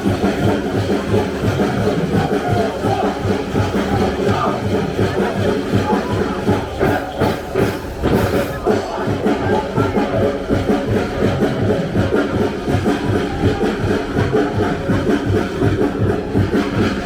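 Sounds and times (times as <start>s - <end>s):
fast drum beat: 0.0s - 17.0s.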